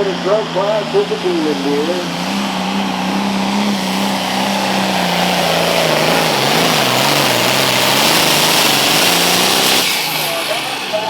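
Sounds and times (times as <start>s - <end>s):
tractor diesel engine at full power: 0.0s - 11.0s.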